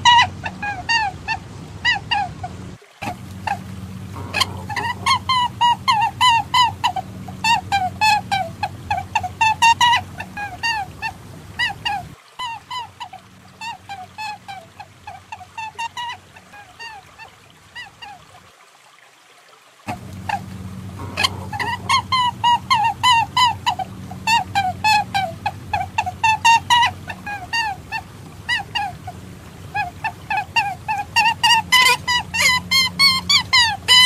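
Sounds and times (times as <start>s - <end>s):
honking animal calls: 0.0s - 17.1s, 19.9s - 34.0s
low steady hum: 0.0s - 18.5s, 19.8s - 34.0s.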